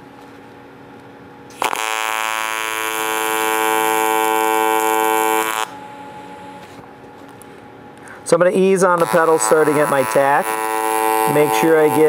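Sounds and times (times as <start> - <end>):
welding arc buzzing: 1.5 - 12.0.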